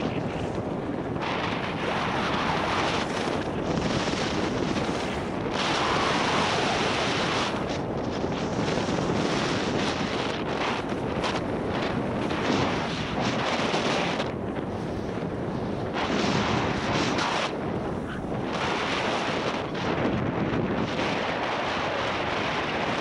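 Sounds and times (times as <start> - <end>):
skis carving over packed snow: 0.0 - 23.0
wind on camera microphone: 0.0 - 23.0.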